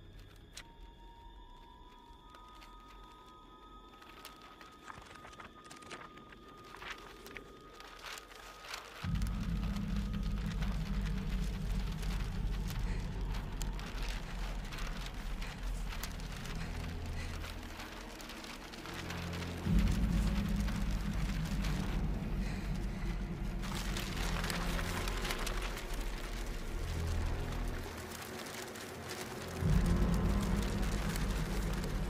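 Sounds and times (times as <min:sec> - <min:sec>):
dense crackling patter: 0:00.0 - 0:32.0
deep low rumble: 0:05.3 - 0:32.0.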